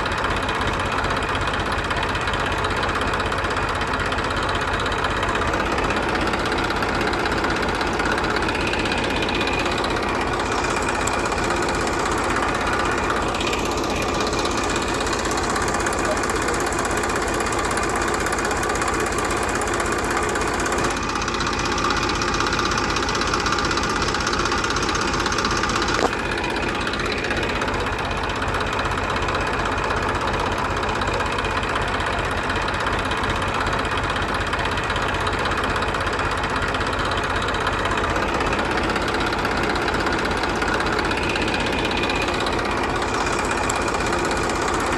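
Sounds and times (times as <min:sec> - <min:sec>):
small engine chugging: 0:00.0 - 0:44.9.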